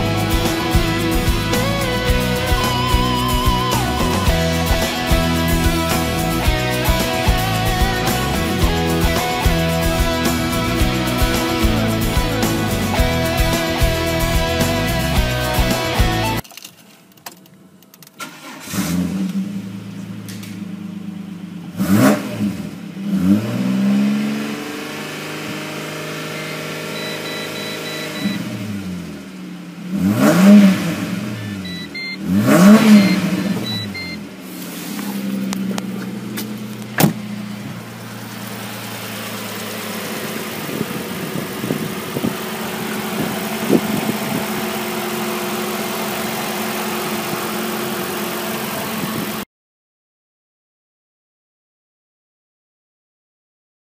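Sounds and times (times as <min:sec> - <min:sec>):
car engine idling and revving: 0:00.0 - 0:16.4, 0:17.3 - 0:49.4.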